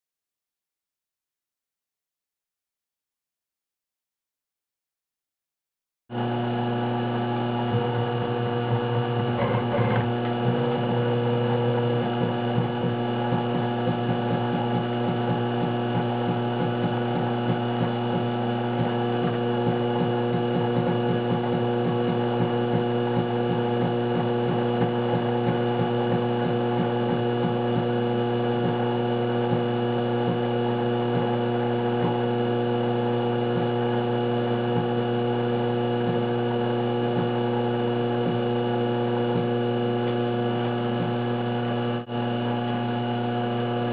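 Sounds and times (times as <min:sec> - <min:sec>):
electric motor hum: 0:06.1 - 0:43.9.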